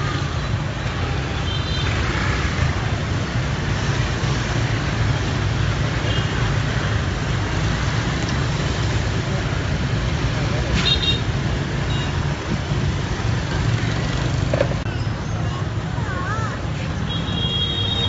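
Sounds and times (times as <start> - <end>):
motorbike and scooter engines: 0.0 - 18.0.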